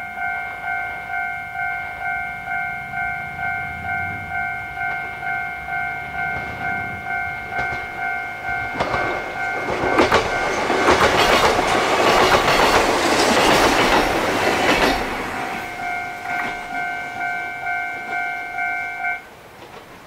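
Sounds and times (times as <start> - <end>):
level-crossing warning bell: 0.0 - 19.4
electric train passing: 0.0 - 20.0
wheels clacking over rail joints: 2.9 - 20.0.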